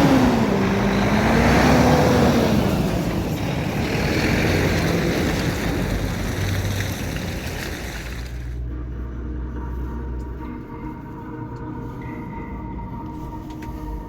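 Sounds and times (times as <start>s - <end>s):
road noise: 0.0s - 14.0s
truck diesel engine: 0.0s - 14.0s.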